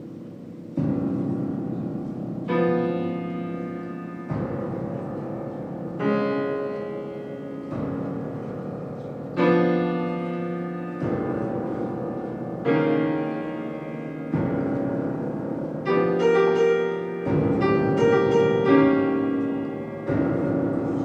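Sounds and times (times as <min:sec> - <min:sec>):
piano playing bell-like chords: 0:00.0 - 0:21.0.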